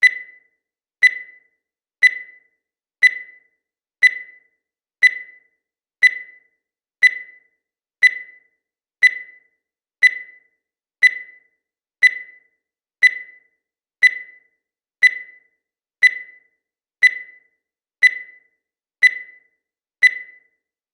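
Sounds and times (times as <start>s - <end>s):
countdown timer beeping: 0.0s - 20.6s.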